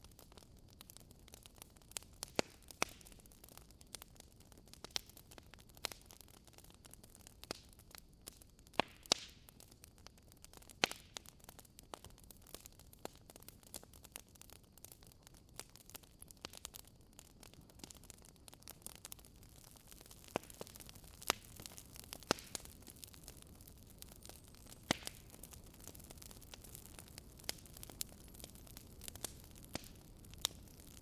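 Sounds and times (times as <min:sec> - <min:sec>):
faint steady hiss: 0:00.0 - 0:31.0
wood fire crackling: 0:00.0 - 0:31.0.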